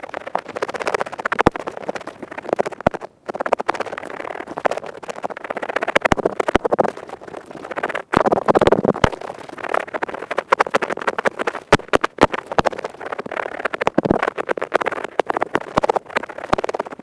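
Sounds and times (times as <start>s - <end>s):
earpick scraping microphone: 0.0s - 17.0s.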